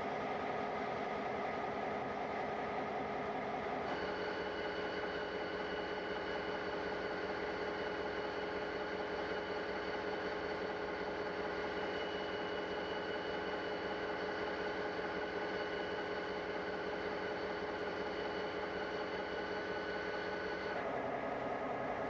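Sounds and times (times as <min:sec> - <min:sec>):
constant humming tones: 0:00.0 - 0:22.0.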